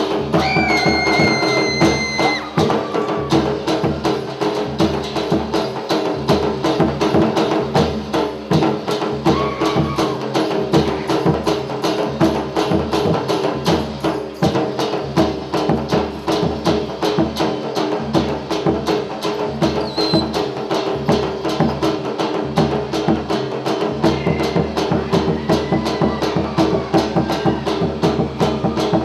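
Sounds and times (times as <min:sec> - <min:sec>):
fast percussion strokes: 0:00.0 - 0:29.0.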